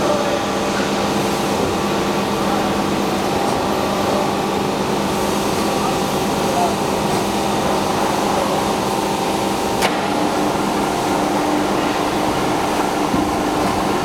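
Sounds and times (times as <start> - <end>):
machine drive humming: 1.5 - 14.0.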